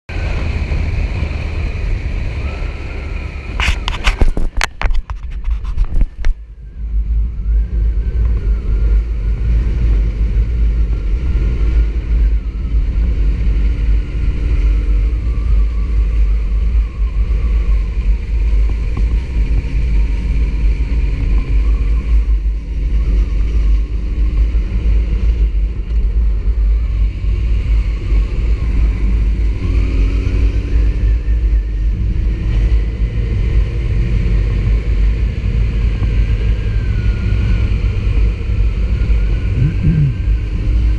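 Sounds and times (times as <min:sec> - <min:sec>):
motorcycle engine rumble: 0:00.1 - 0:40.9
wind on microphone: 0:00.1 - 0:40.9.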